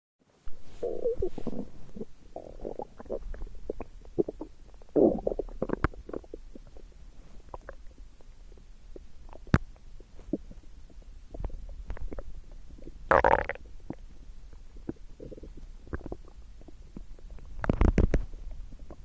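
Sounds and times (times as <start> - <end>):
stomach gurgling: 0.5 - 19.0.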